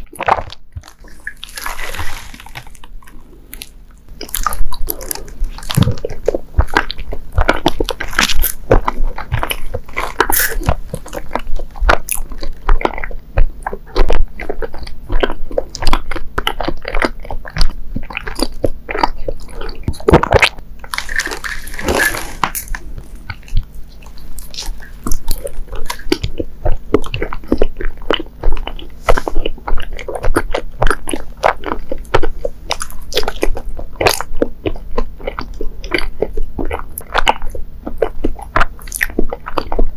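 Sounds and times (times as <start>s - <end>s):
wet chewing mouth smacks: 0.0s - 39.9s.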